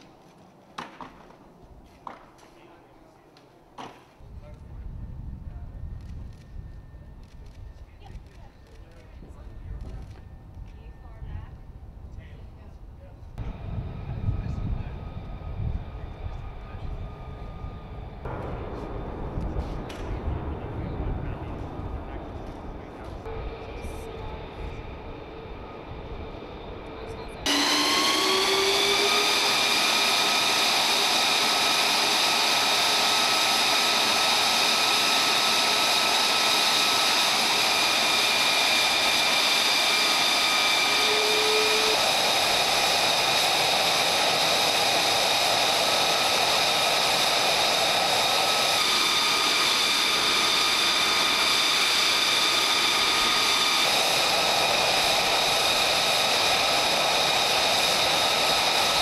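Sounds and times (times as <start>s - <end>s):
jet engine whine: 1.7s - 59.0s.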